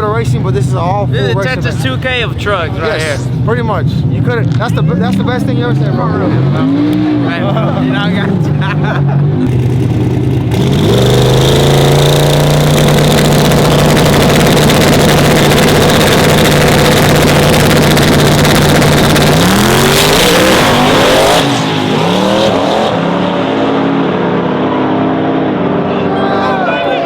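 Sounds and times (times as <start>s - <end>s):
truck engine running hard: 0.0s - 27.0s.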